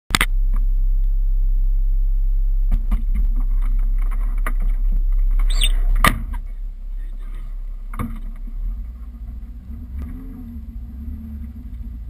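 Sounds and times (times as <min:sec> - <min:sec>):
car engine idling: 0:00.2 - 0:12.0.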